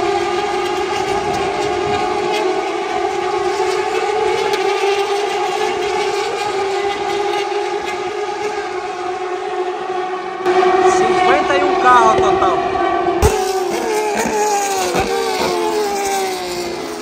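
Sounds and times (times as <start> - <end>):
race car engines at high revs: 0.0 - 17.0.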